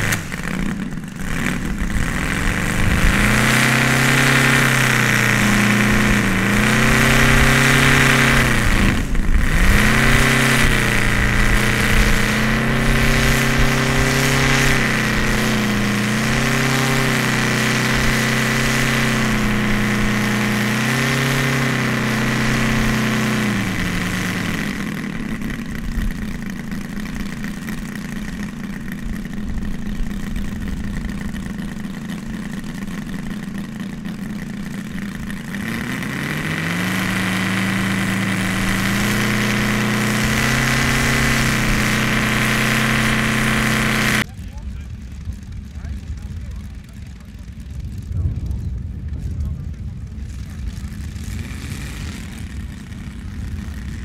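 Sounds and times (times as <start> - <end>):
model plane radial engine running: 0.0 - 48.1, 49.7 - 54.0.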